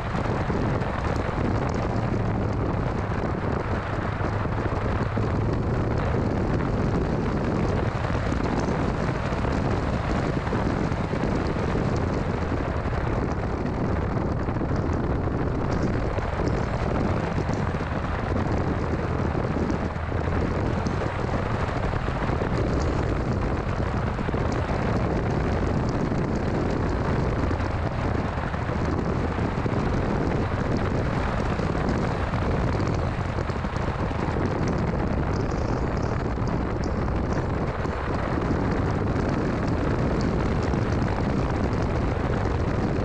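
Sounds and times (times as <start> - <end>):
road and wind noise: 0.0 - 43.0.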